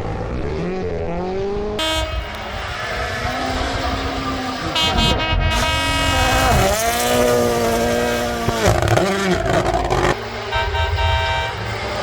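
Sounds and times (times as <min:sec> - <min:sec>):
rally car engine revving: 0:00.0 - 0:12.0
sharp exhaust cracks: 0:01.8 - 0:12.0.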